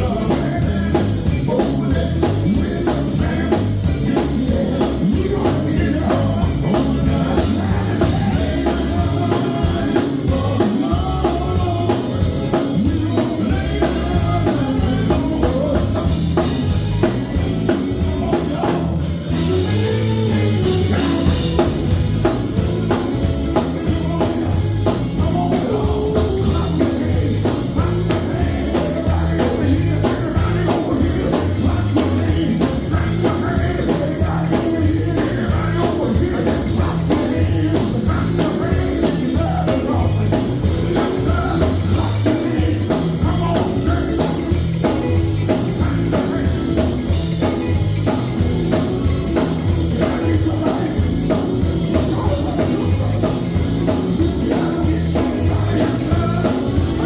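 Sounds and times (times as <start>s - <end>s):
drum kit: 0.0s - 57.0s
electric guitar: 0.0s - 57.0s
group singing gospel: 0.0s - 57.0s.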